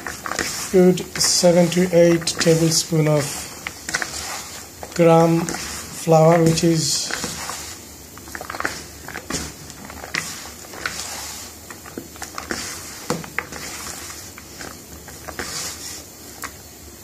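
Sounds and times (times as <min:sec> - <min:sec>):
onions rustling: 0:00.0 - 0:16.7.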